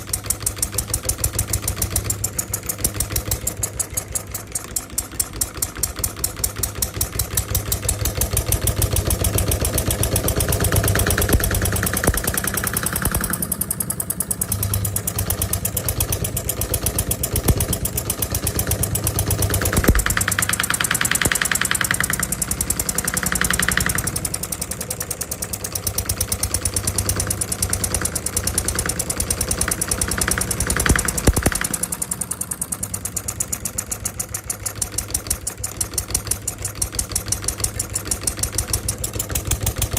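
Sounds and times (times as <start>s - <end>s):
model diesel engine running: 0.0s - 39.9s.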